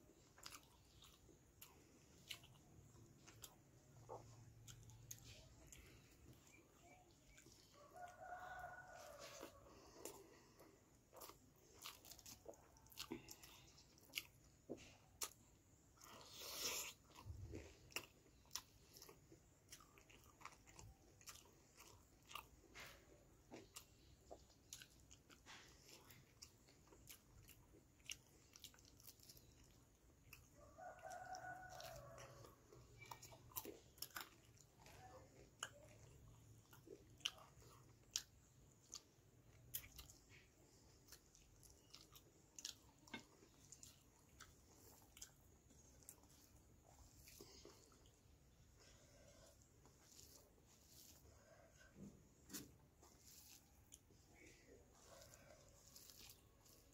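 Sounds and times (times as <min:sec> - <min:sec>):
chewing and wet mouth sounds: 0:00.0 - 0:56.9.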